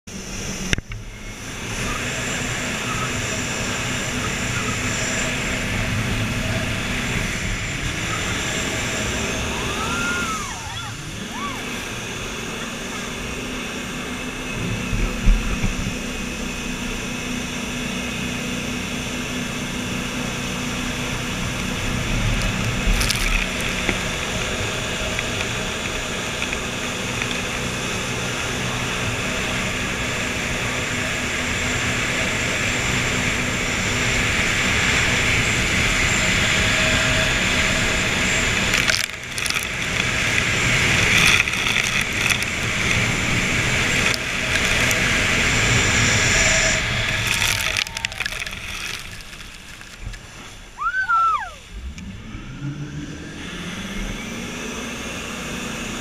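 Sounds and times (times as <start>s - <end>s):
boat engine drone: 0.1s - 56.0s.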